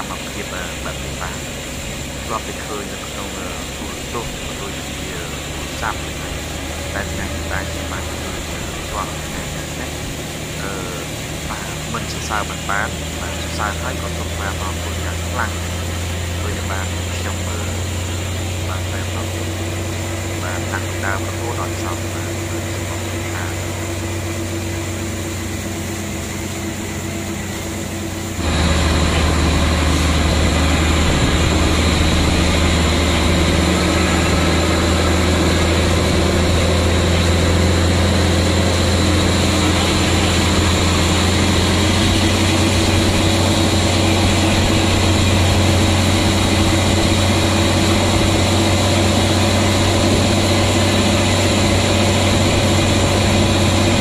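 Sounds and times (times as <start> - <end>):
heavy truck engine droning: 0.0 - 54.0
rushing floodwater: 0.0 - 54.0.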